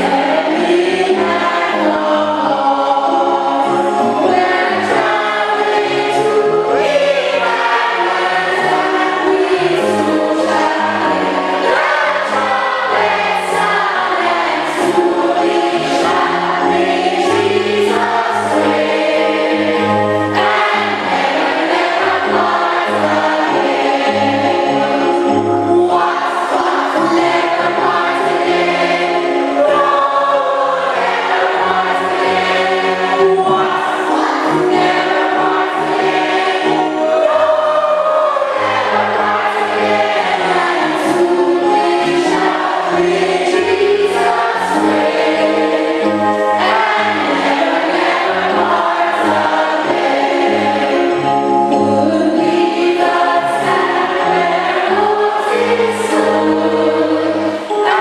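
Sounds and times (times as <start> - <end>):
choir singing a hymn: 0.0 - 58.0
instrumental accompaniment: 0.0 - 58.0.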